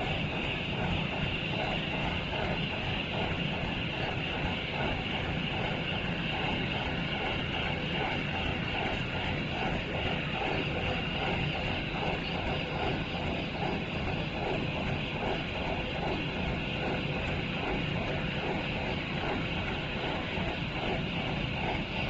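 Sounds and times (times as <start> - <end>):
pulsing machinery hum: 0.0 - 22.0.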